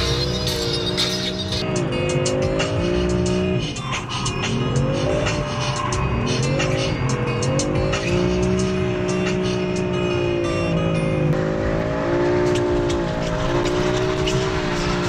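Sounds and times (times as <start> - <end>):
car engine revving high: 0.0 - 15.0.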